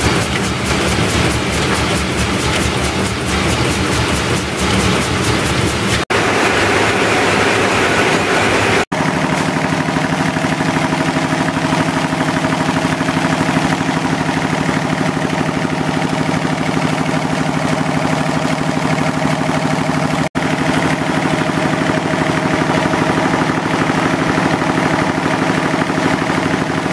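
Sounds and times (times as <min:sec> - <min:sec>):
printing press running: 0:00.0 - 0:26.9.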